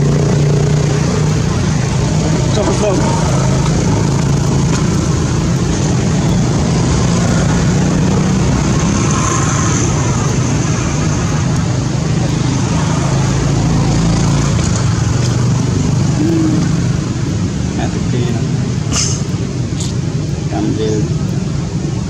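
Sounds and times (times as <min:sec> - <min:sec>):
constant hiss: 0:00.0 - 0:22.0
low engine drone: 0:00.0 - 0:22.0.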